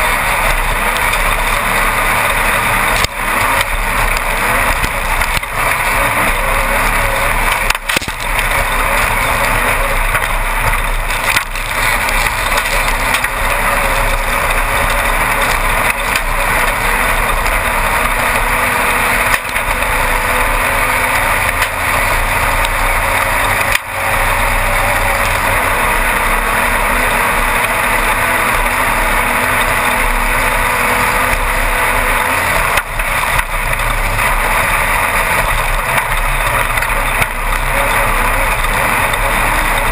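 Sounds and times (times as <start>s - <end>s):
chassis rattle: 0.0s - 39.9s
engine running hard: 0.0s - 39.9s
rushing noise: 0.0s - 39.9s.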